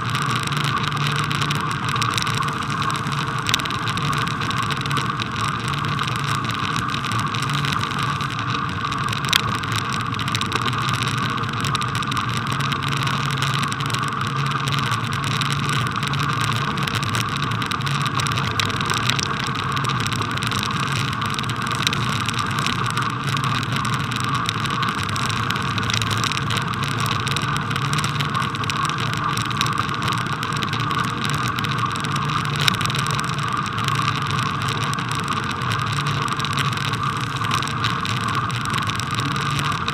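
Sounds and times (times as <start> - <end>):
bicycle rolling over snow: 0.0 - 39.9.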